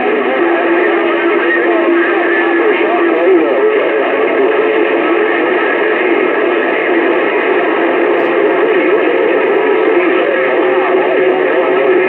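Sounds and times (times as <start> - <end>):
garbled radio tones: 0.0 - 12.0
radio static: 0.0 - 12.0.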